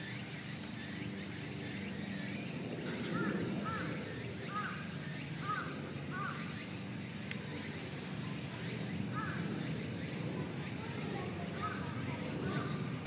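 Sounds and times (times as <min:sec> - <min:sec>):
low outdoor murmur: 0:00.0 - 0:13.0
thin high steady tone: 0:00.2 - 0:13.0.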